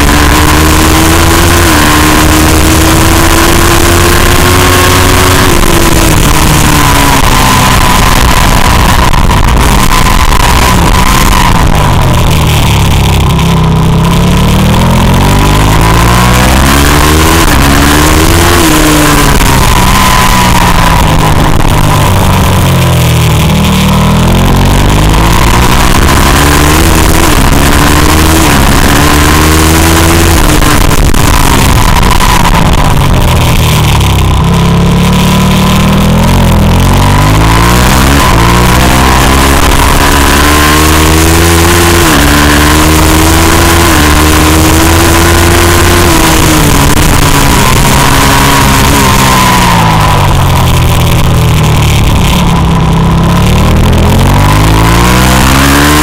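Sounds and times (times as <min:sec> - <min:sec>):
motorcycle engine at full throttle: 0:00.0 - 0:56.0.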